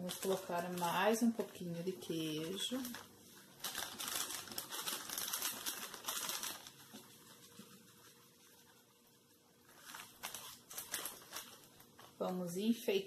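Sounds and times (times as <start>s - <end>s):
plastic packet rustling: 0.0s - 12.3s.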